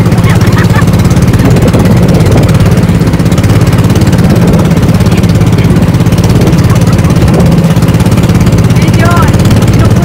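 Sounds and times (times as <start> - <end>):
motorboat engine droning: 0.0 - 10.0.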